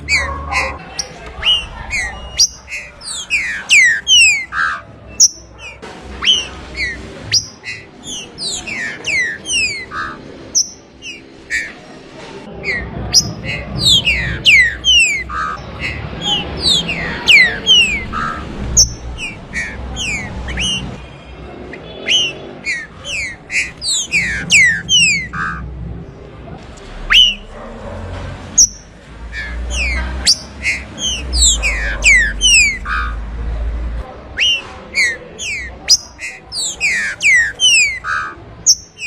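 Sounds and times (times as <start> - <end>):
bird singing whistled notes: 1.0 - 11.8, 12.6 - 21.0, 21.8 - 25.6, 27.1 - 27.5, 28.6 - 33.2, 34.4 - 39.0.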